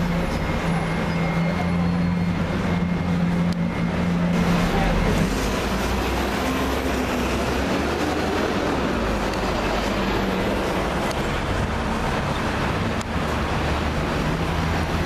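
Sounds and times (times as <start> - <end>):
nearby bus: 0.0 - 15.0
street traffic noise: 0.0 - 15.0.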